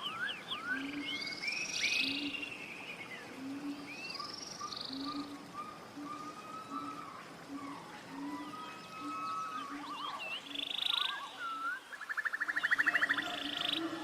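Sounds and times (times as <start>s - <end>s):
forest birds whistling and trilling: 0.0s - 14.0s.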